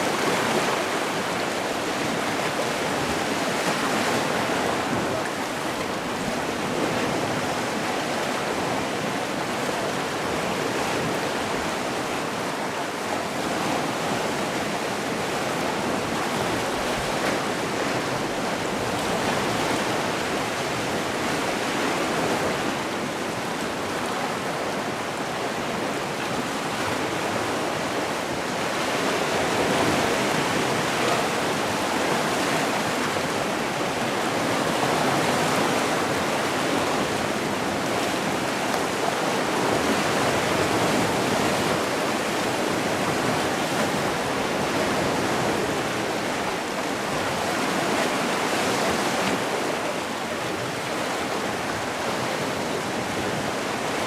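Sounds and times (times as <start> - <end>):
sea waves washing: 0.0 - 54.0.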